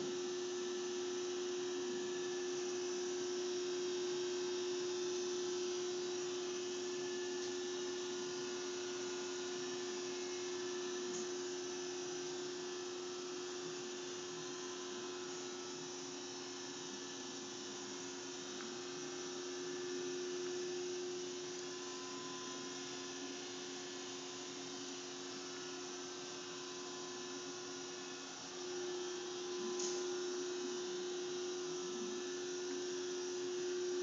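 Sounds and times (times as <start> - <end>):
electric machine humming: 0.0 - 34.0.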